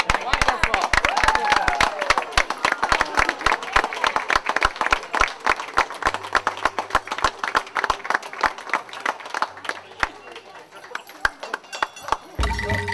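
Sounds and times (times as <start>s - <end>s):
audience clapping: 0.0s - 12.9s.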